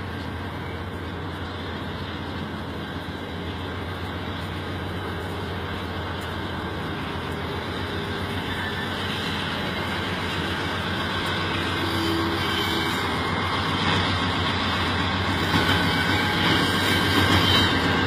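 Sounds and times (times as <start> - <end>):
diesel locomotives droning: 0.0 - 18.0.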